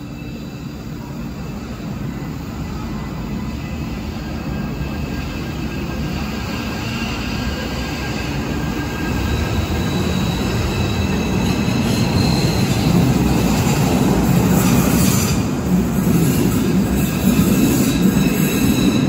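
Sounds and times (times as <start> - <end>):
faint wheel squeal: 0.0 - 13.9, 16.2 - 19.0
train rumble: 0.0 - 19.0.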